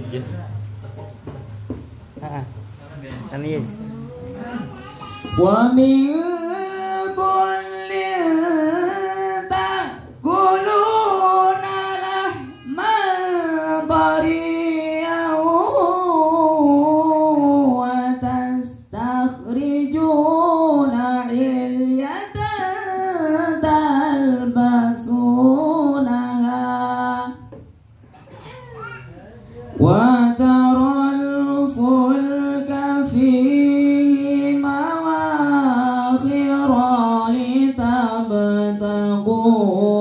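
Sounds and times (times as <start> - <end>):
man singing into microphone: 3.6 - 27.6, 29.8 - 40.0.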